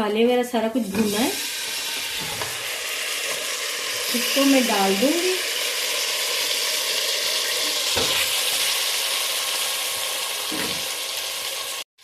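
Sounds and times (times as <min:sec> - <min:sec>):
food sizzling in hot oil: 0:00.8 - 0:11.9.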